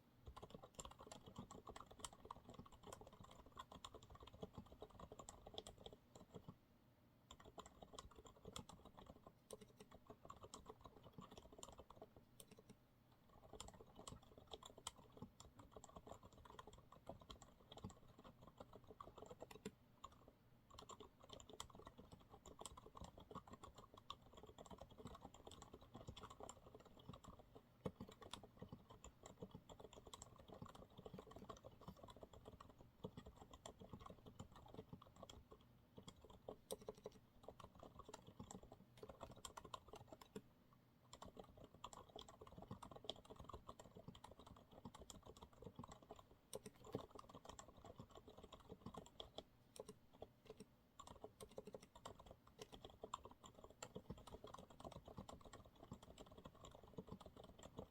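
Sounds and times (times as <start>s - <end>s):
soft keyboard typing: 0.0s - 6.6s, 7.2s - 57.9s.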